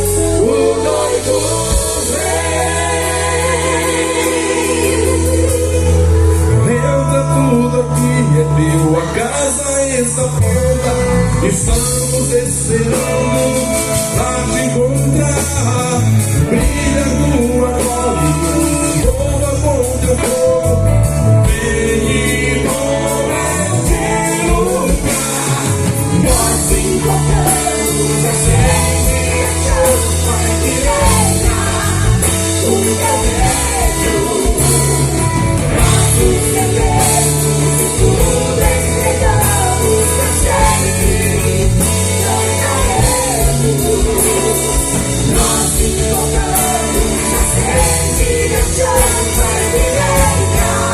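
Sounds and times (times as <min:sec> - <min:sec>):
person singing: 0:00.0 - 0:50.9
rock band playing: 0:00.0 - 0:50.9.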